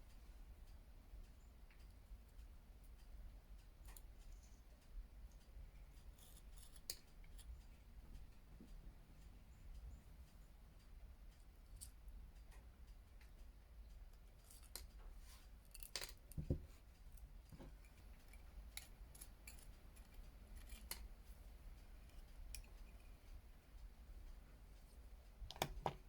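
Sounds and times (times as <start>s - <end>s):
small metallic clicks and scrapes: 1.3s - 26.0s.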